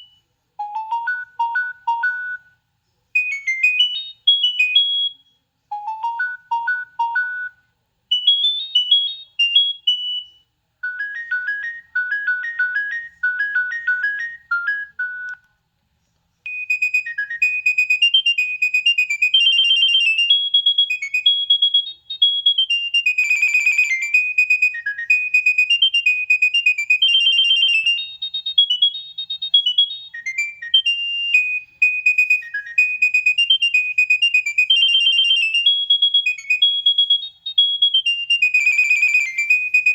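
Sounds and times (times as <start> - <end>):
mobile phone ringtone melodies: 0.0 - 2.6, 3.2 - 15.5, 16.5 - 39.9.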